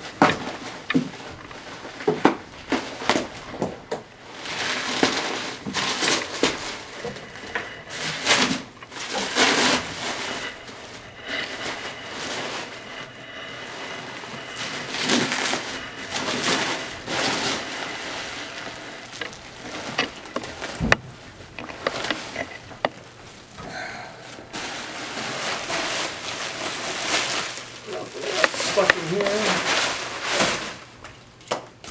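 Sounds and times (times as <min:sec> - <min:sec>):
packing material rustling: 0:00.0 - 0:31.9.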